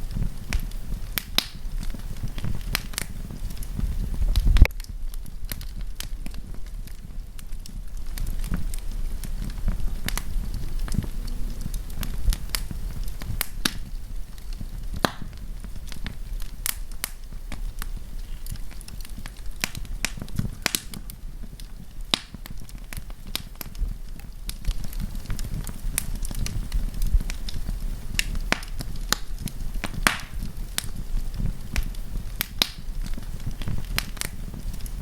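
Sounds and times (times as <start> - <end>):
campfire crackling: 0.0 - 35.0
low rumble of flames: 0.0 - 35.0.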